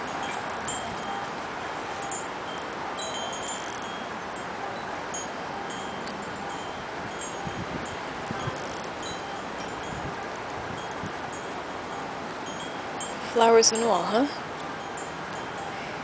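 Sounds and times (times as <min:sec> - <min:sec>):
wind chimes tinkling: 0:00.0 - 0:16.0.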